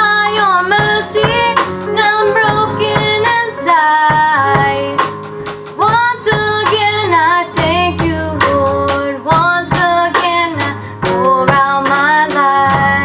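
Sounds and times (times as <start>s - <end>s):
woman singing worship song: 0.0s - 5.1s, 5.8s - 13.0s
guitar accompaniment: 0.0s - 13.0s.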